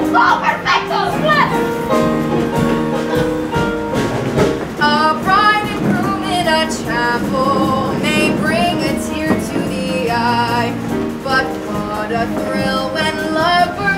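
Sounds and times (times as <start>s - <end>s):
musical accompaniment: 0.0s - 13.9s.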